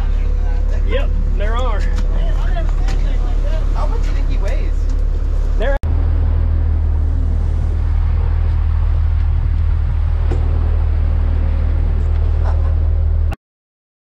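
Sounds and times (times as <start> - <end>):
boat engine droning: 0.0 - 13.4.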